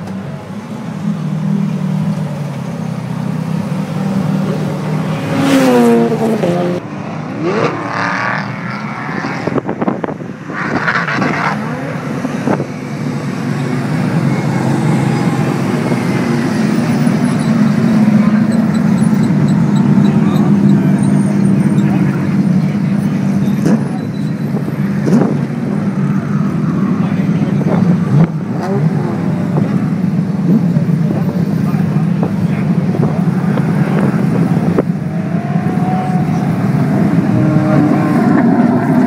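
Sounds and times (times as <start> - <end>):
race car engines passing: 0.0 - 39.0.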